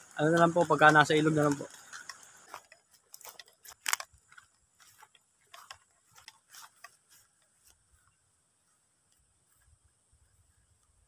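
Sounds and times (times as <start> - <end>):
footsteps on grass: 0.0 - 10.5.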